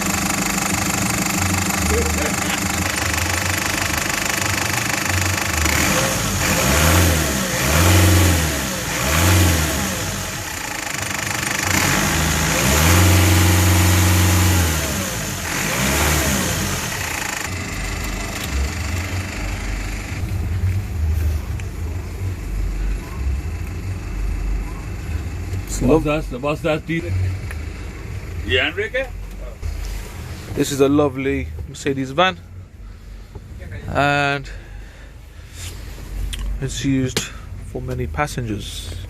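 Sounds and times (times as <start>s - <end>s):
diesel engine revving: 0.0s - 31.4s.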